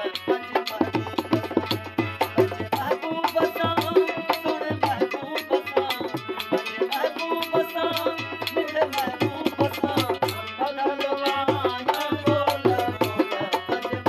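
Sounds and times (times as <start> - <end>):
man singing: 0.0 - 14.0
quick steady percussion: 0.0 - 14.0.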